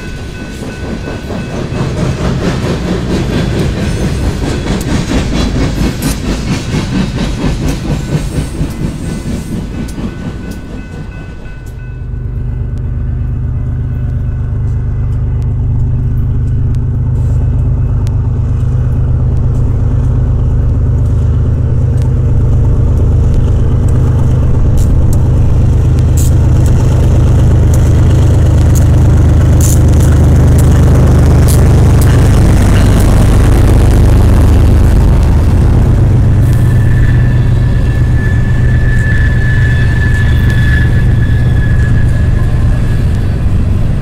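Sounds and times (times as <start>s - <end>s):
diesel locomotive engine drone: 0.0s - 44.0s
train wheels clattering on rails: 0.0s - 44.0s.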